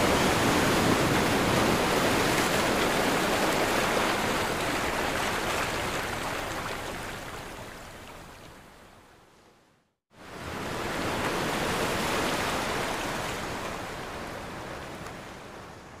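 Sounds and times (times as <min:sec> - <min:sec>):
rushing water: 0:00.0 - 0:09.5, 0:10.2 - 0:16.0.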